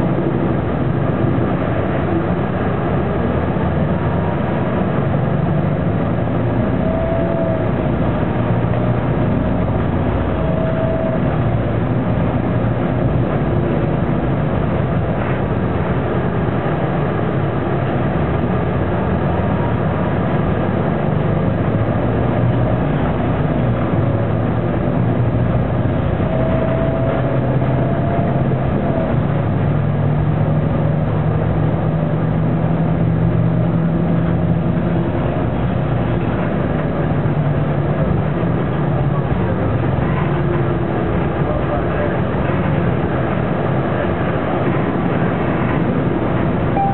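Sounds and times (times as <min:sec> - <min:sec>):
bus diesel engine droning: 0:00.0 - 0:46.9.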